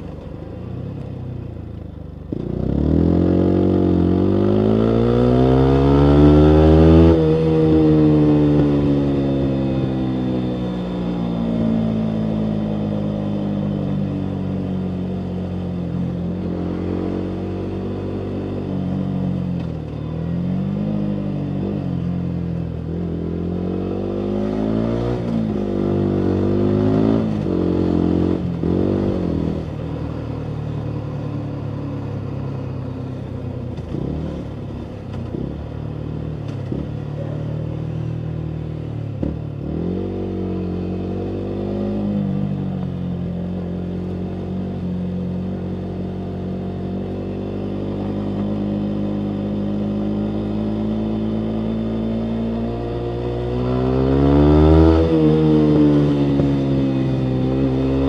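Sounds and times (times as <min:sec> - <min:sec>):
motorcycle engine revving: 0:02.2 - 0:58.0.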